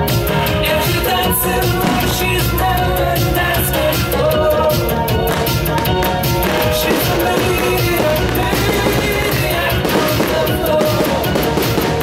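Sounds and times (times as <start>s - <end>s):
music playing: 0.0s - 12.0s.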